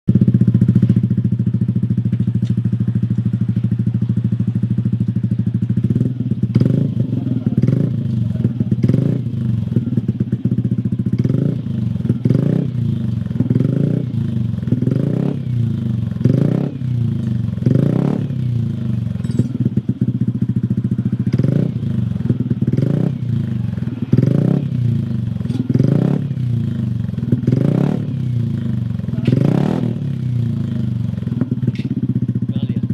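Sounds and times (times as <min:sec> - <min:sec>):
scooter engine idling and revving: 0:00.1 - 0:32.9.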